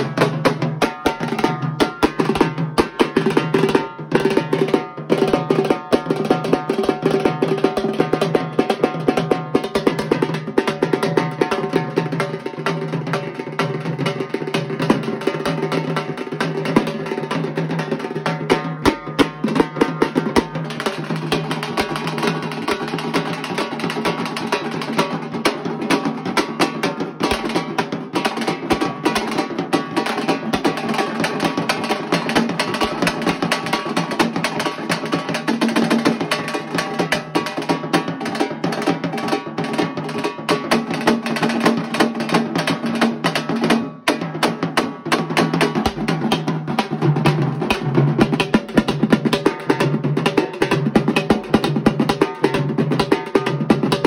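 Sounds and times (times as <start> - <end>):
frame drums beaten with sticks: 0.0 - 54.0
large bass drum: 0.0 - 54.0.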